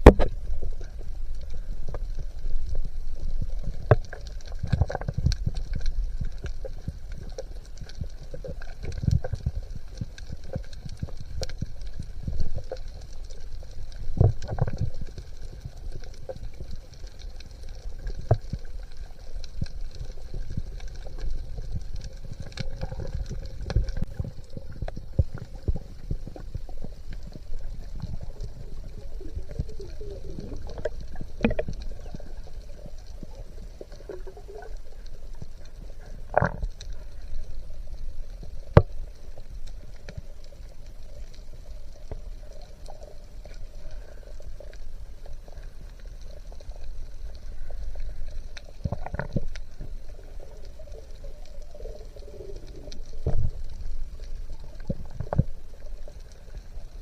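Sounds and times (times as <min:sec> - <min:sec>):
small clicks and crackles: 0:00.0 - 0:57.0
underwater rumble of moving water: 0:00.0 - 0:57.0.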